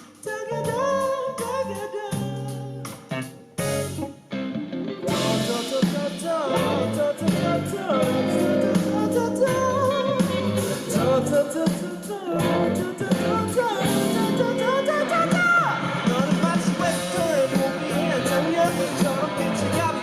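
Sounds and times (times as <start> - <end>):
person singing: 0.0 - 3.0, 5.0 - 20.0
drums: 0.0 - 4.3, 4.9 - 20.0
bass: 0.0 - 20.0
electric guitar: 0.0 - 20.0.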